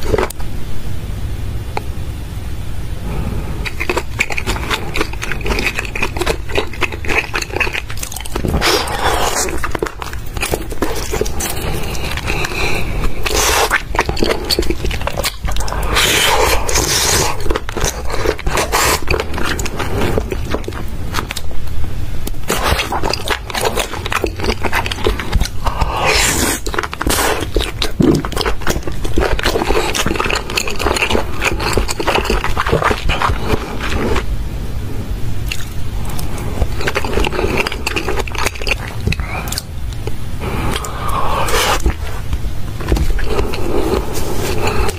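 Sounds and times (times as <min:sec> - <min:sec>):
wet chewing and biting: 0:00.0 - 0:00.4, 0:03.5 - 0:34.3, 0:35.4 - 0:44.9.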